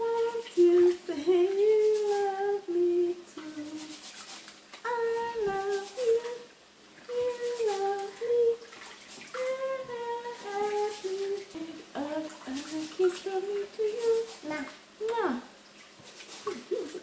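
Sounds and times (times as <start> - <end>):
faint water splashing in sink: 0.0 - 17.0.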